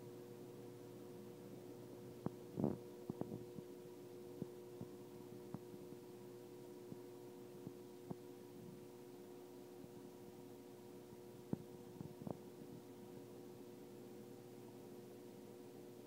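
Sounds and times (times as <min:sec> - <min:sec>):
aquarium pumps humming: 0:00.0 - 0:16.0.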